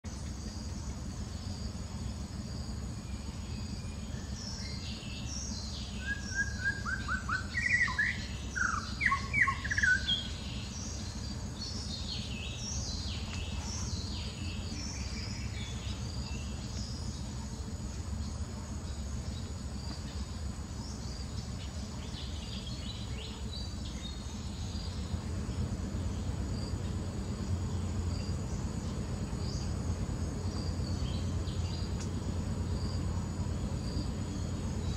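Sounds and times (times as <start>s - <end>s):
birds chirping: 0.1s - 34.9s
steady low rumble: 0.1s - 34.9s.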